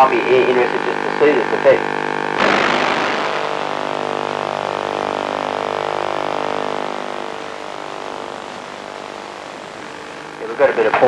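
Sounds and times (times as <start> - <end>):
electrical buzz with hiss: 1.2 - 11.0.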